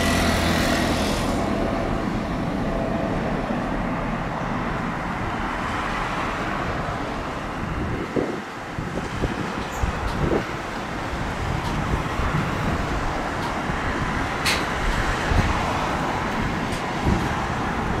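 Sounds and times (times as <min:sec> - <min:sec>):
jet engines at takeoff: 0:00.0 - 0:18.0
wind rumble on microphone: 0:00.0 - 0:18.0.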